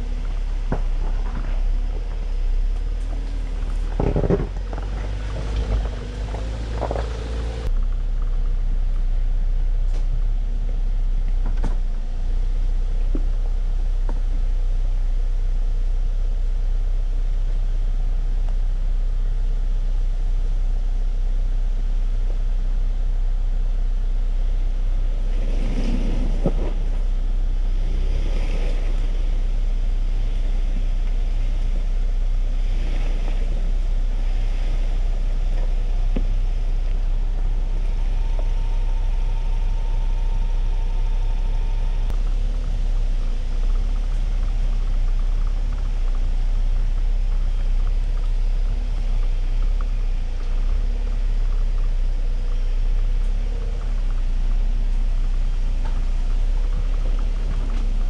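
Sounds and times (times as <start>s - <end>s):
pickup truck rumbling off-road: 0.0s - 58.0s.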